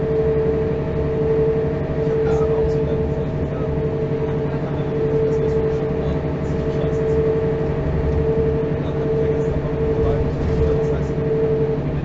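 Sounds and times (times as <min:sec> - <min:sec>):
diesel bus engine droning: 0:00.0 - 0:12.0
high-pitched whine: 0:00.0 - 0:12.0.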